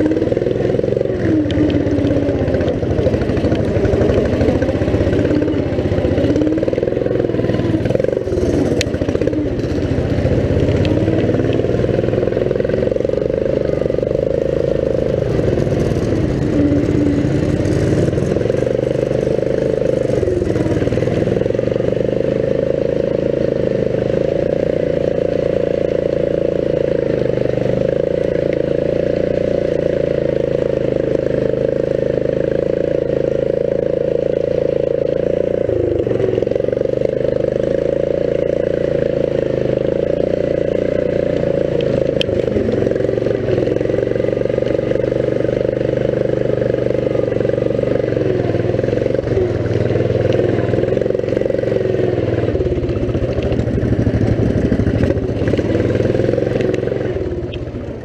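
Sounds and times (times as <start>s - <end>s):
riding lawn mower engine: 0.0s - 58.0s.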